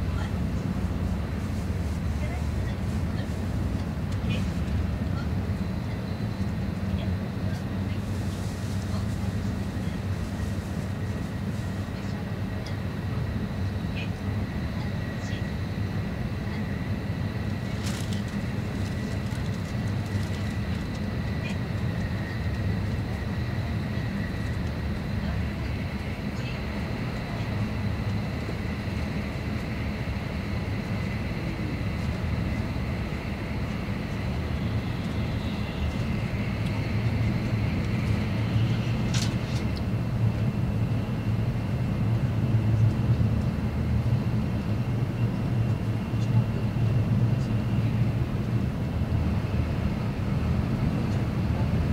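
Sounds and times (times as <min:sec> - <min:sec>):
faint high whine: 0:00.0 - 0:51.9
train cabin low rumble: 0:00.0 - 0:51.9.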